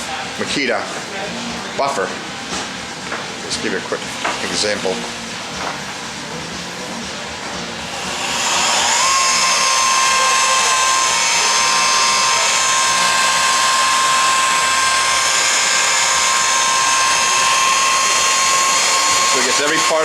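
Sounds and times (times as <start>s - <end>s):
electric buffer whining: 0.0s - 20.0s.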